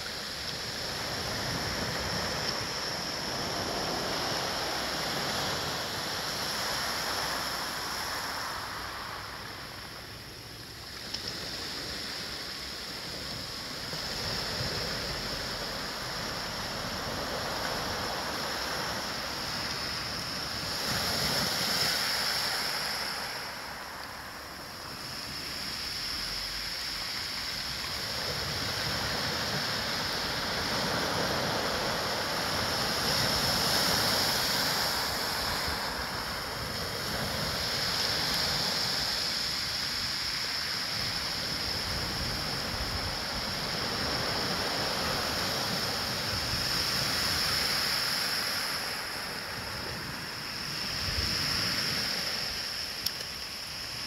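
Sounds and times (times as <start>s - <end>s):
waves washing on pebble beach: 0.0s - 54.0s.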